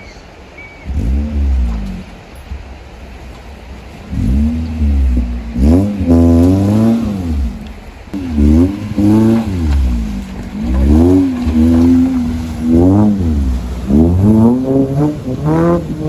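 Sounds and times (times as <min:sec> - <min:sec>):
car engine revving: 0:00.8 - 0:16.0.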